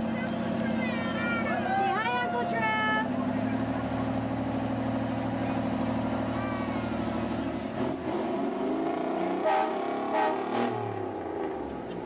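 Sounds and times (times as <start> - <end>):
heavy truck engine passing: 0.0 - 12.0.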